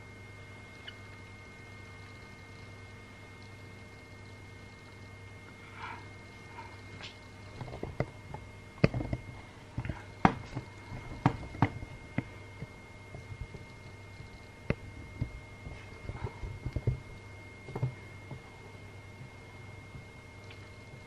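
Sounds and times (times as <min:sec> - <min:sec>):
faint hum: 0:00.0 - 0:21.0.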